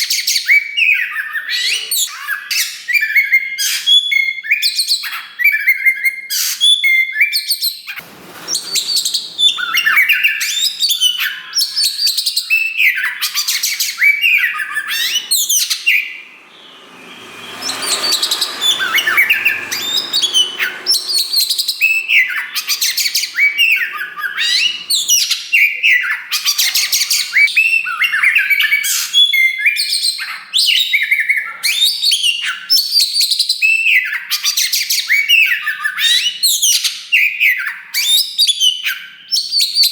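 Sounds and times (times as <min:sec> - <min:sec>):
bird singing whistles and chirps: 0:00.0 - 0:35.7.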